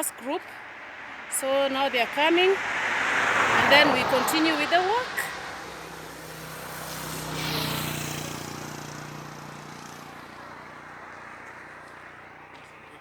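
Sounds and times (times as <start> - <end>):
vehicle engine passing by: 0.4 - 13.0.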